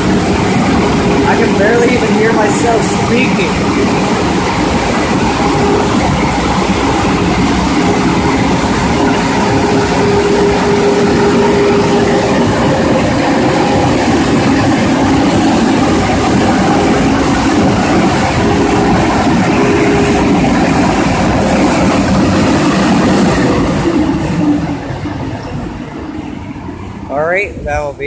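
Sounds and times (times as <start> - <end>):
air dryers blowing: 0.0 - 28.0.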